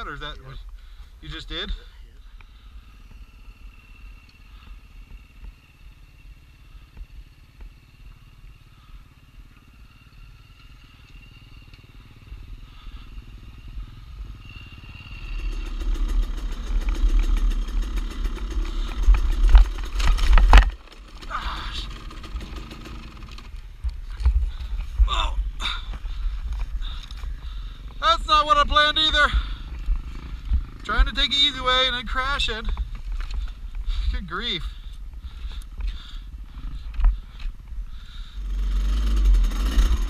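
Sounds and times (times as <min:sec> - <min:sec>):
faint dirt bike engine running: 0:00.0 - 0:40.0
engine clatter: 0:01.3 - 0:40.0
dirt bike engine revving: 0:02.6 - 0:33.5, 0:38.0 - 0:40.0.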